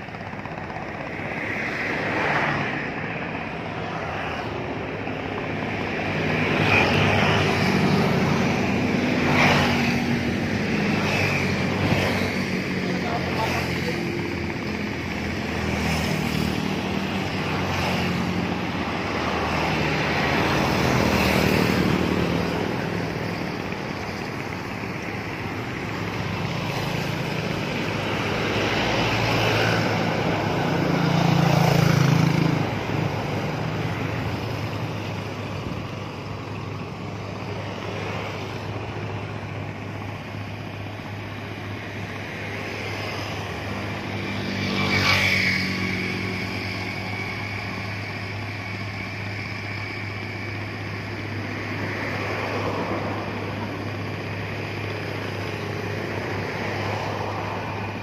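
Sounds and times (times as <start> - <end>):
boat diesel engine drone: 0.0 - 58.0.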